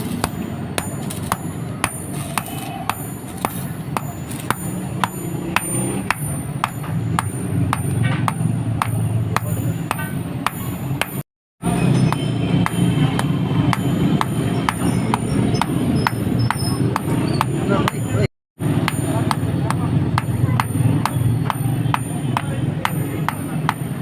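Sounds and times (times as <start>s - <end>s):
hammer striking steel on anvil: 0.0s - 24.0s.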